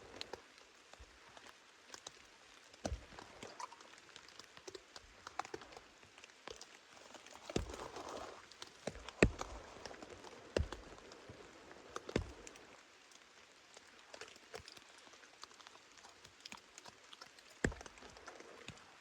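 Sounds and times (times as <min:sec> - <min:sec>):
raindrops on tent fabric: 0:00.0 - 0:19.0.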